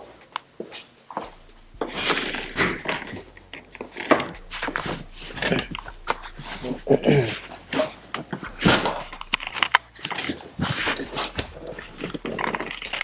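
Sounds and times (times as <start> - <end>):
parts clicking and knocking: 1.2 - 13.0.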